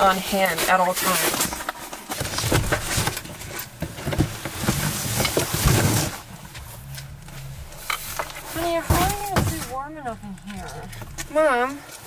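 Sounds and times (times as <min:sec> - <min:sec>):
boxes rustling and scraping: 0:00.0 - 0:12.0
low steady hum: 0:00.0 - 0:12.0.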